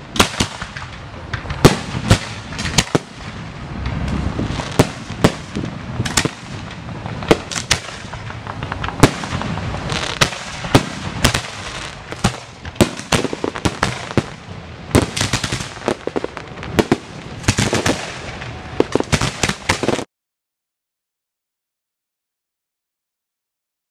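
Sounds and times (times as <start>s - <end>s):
crackling hiss: 0.0s - 20.1s
firework bangs: 0.0s - 20.1s.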